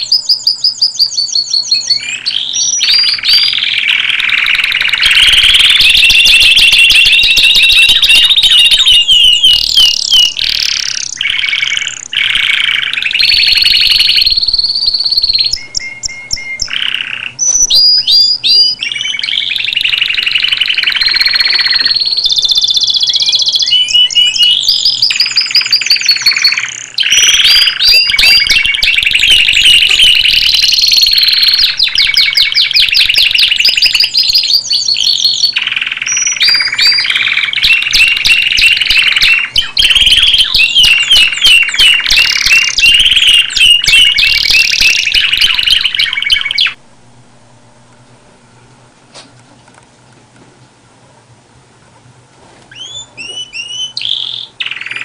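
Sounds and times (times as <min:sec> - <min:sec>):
canary singing: 0:00.0 - 0:48.8, 0:52.7 - 0:55.0.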